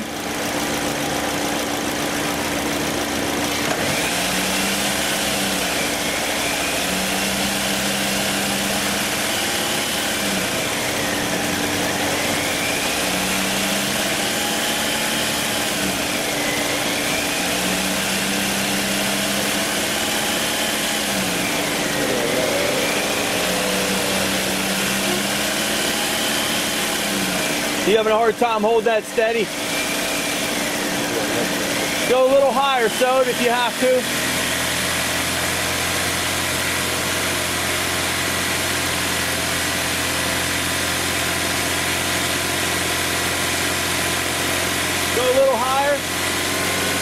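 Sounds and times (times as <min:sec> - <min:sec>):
car engine fast idle wavering: 0:00.0 - 0:47.0.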